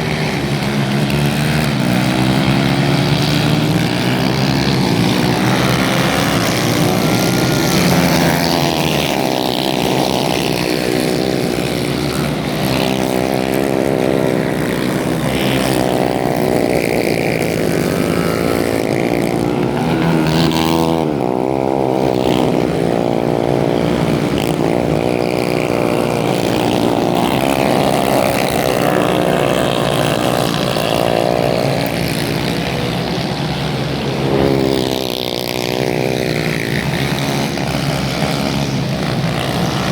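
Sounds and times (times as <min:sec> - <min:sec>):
racing kart engines: 0:00.0 - 0:39.9.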